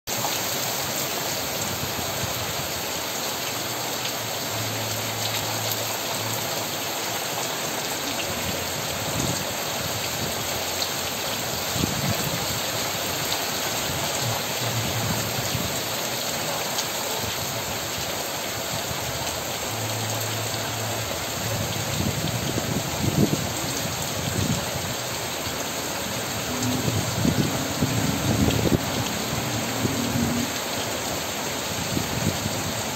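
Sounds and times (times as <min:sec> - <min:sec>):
heavy rain on foliage: 0:00.1 - 0:32.9.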